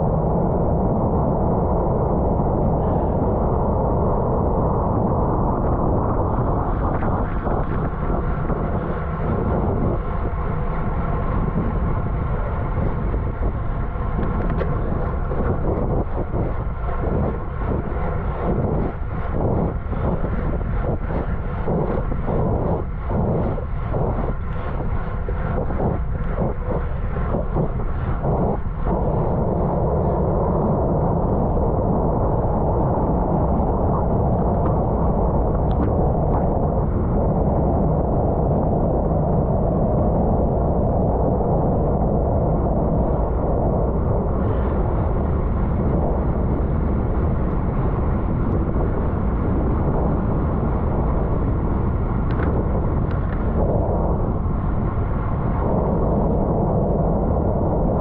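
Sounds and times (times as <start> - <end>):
wind rushing over microphone: 0.0 - 58.0
road noise: 2.7 - 38.4, 42.2 - 58.0.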